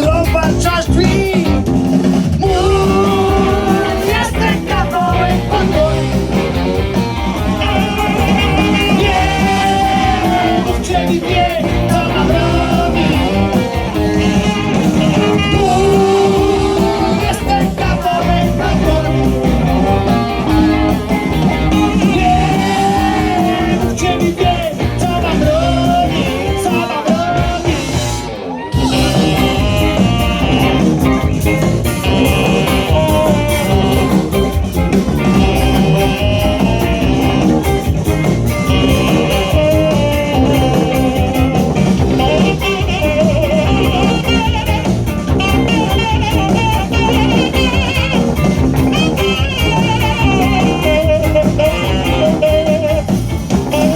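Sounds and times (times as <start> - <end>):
person singing lead vocal: 0.0 - 6.6, 7.4 - 48.2
rock band playing: 0.0 - 53.9.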